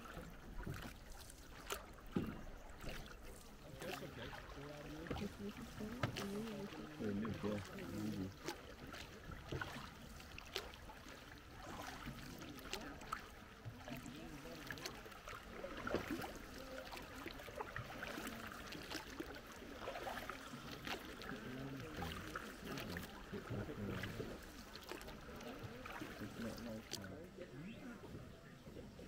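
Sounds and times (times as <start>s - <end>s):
oars splashing and knocking: 0.0s - 29.0s
water lapping around hull: 0.0s - 29.0s.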